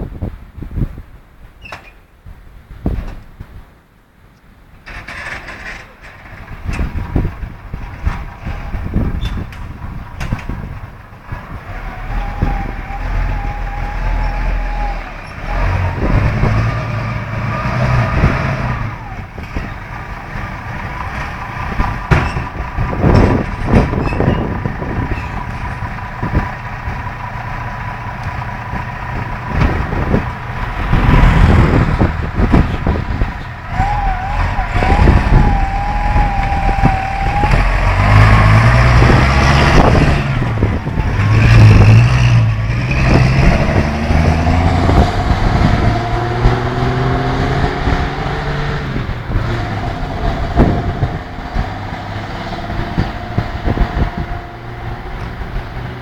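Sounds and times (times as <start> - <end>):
diesel engines running: 4.4 - 56.0.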